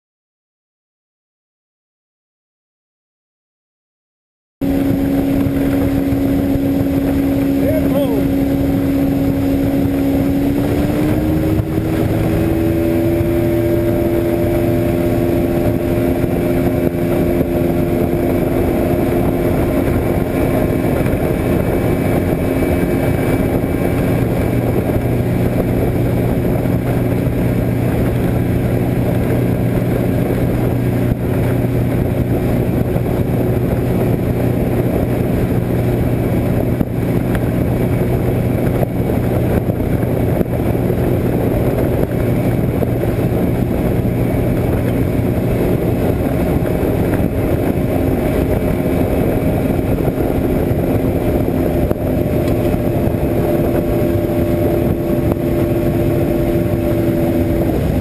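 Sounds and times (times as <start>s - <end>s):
outboard engine running: 4.6s - 58.0s
rush of wind and water: 4.6s - 58.0s.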